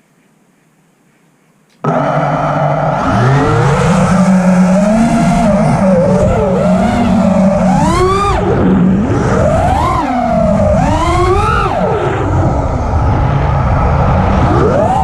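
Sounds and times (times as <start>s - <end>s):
quadcopter motors whining: 1.8s - 15.0s.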